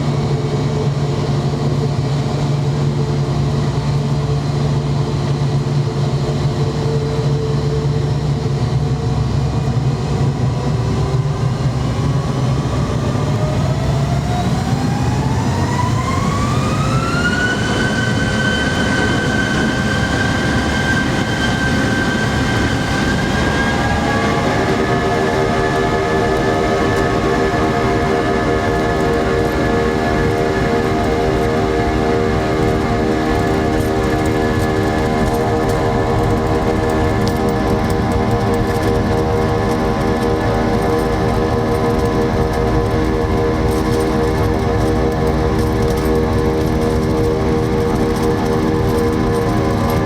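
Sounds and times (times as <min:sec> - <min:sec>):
jet engine whine rising: 0:00.0 - 0:50.0
jet engines droning in cabin: 0:00.0 - 0:50.0.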